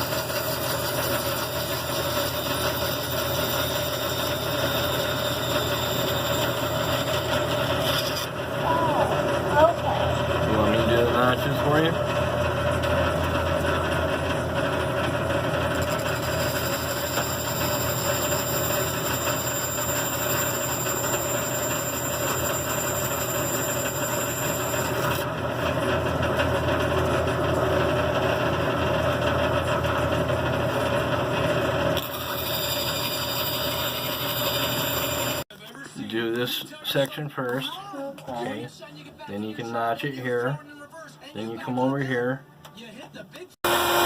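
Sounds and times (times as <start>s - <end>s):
band saw running: 0.0s - 35.4s, 43.6s - 44.0s.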